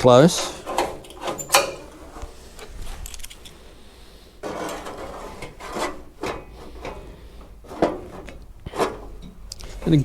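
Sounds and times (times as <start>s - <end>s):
sheet metal panels scraping: 0.0s - 10.0s.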